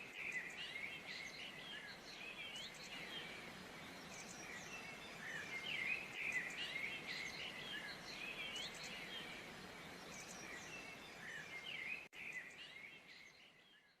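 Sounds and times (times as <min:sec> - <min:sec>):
steady background hiss: 0:00.0 - 0:13.9
small birds chirping: 0:00.0 - 0:14.0.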